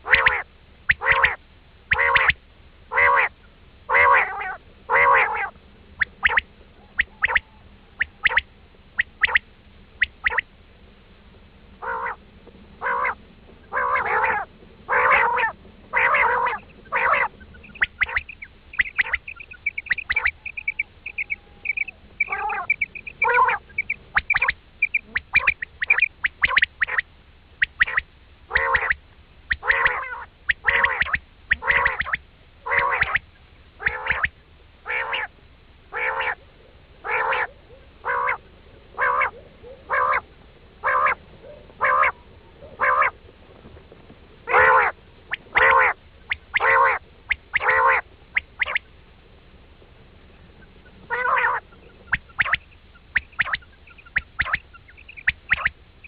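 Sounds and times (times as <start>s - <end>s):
quail calls: 0.0s - 10.5s, 11.8s - 12.2s, 12.8s - 35.3s, 35.9s - 43.2s, 44.4s - 48.9s, 50.4s - 55.8s.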